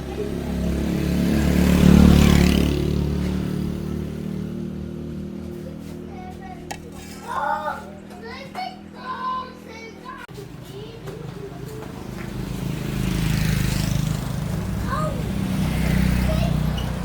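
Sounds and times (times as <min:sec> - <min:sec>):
vehicle engine passing by: 0:00.0 - 0:08.0, 0:10.4 - 0:17.0.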